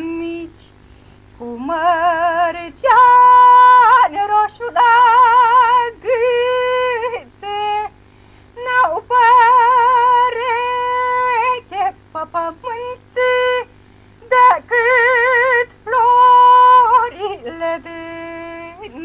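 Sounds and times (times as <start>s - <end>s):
woman singing unaccompanied: 0.0s - 0.8s, 1.4s - 8.0s, 8.6s - 19.0s.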